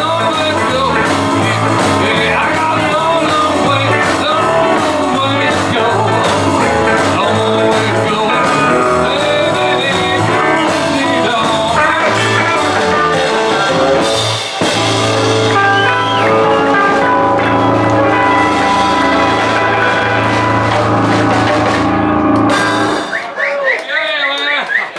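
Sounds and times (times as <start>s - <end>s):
live rockabilly band with singer: 0.0s - 24.9s.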